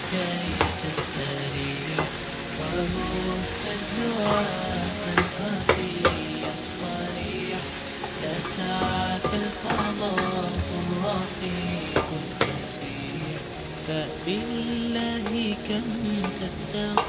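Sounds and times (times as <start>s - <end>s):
potatoes and onions sizzling in oil: 0.0s - 17.0s.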